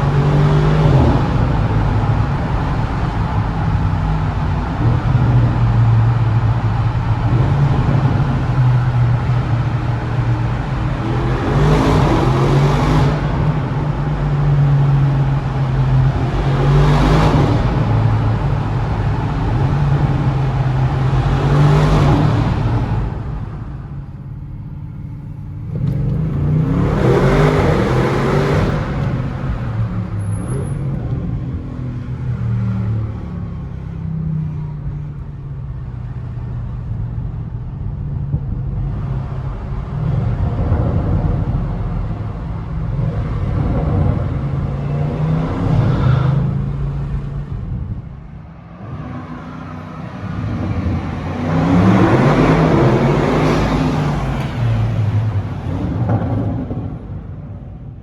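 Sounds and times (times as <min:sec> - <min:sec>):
car engine pulling hard: 0:00.0 - 0:58.0.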